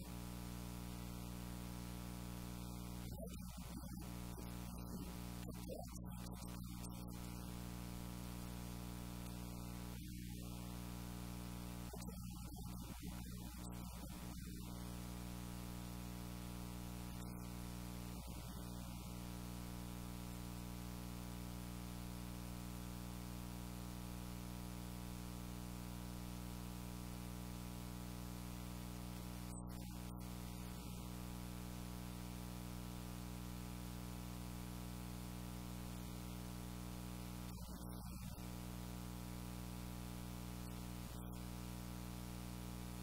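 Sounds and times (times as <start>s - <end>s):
constant hiss: 0.0s - 43.0s
electrical hum: 0.0s - 43.0s.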